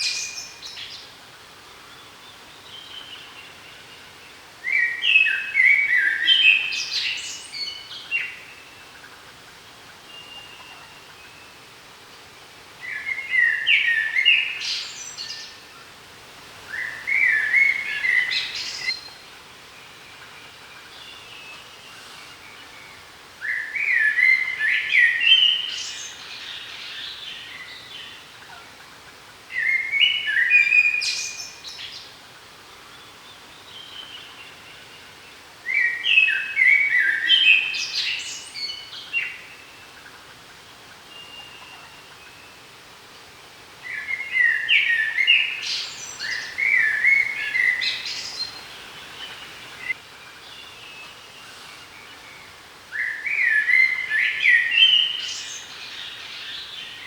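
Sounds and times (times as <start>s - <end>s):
songbird singing: 0.0s - 32.2s, 32.8s - 57.0s
faint steady background hiss: 0.0s - 57.0s.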